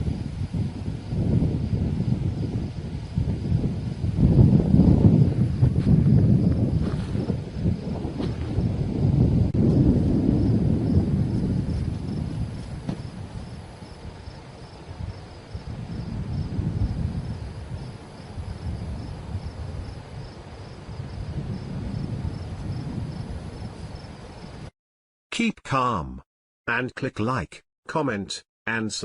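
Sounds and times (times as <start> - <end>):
wind buffeting the microphone: 0.0 - 24.7.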